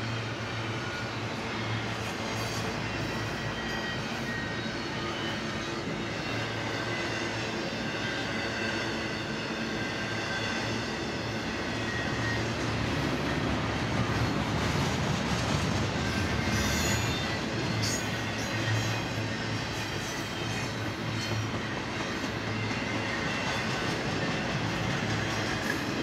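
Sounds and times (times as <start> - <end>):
steel wheels rumbling on rail: 0.0 - 26.0
thin wheel squeals: 0.6 - 13.4, 15.9 - 26.0.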